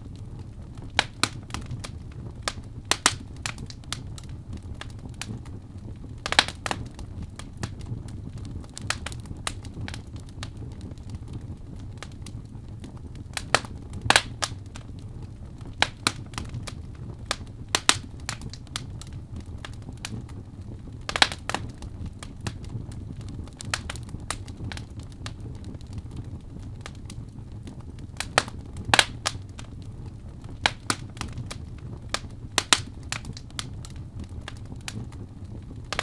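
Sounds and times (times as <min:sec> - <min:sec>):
low rumble of flame: 0:00.0 - 0:36.0
wood fire crackling and popping: 0:00.0 - 0:36.0.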